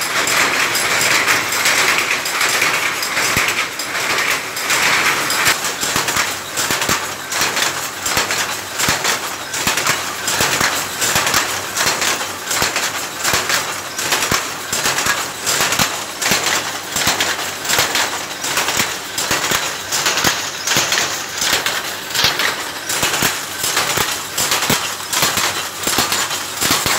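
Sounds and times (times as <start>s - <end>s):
power loom clattering: 0.0s - 26.9s.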